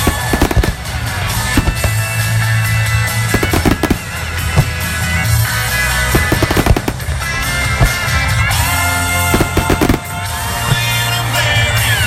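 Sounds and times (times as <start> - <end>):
fireworks bursting: 0.0 - 12.0
music: 0.0 - 12.0.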